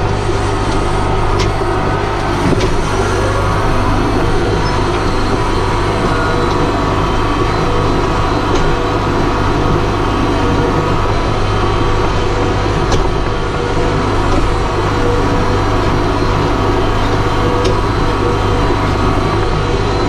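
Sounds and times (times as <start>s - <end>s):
tractor engine under load: 0.0s - 20.0s.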